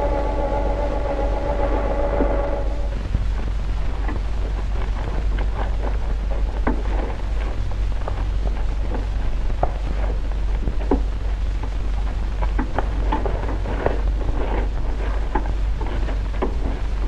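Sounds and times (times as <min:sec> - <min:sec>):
hiss: 0:00.0 - 0:17.0
low hum: 0:00.0 - 0:17.0.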